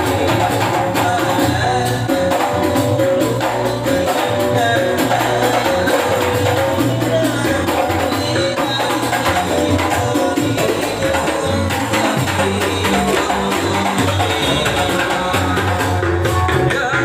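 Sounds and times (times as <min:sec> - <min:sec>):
electronic keyboard melody: 0:00.0 - 0:17.0
frame drums beating: 0:00.0 - 0:17.0.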